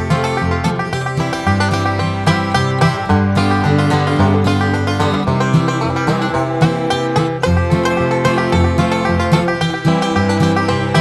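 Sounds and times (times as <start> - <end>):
bass line: 0.0 - 11.0
plucked-string notes: 0.0 - 11.0.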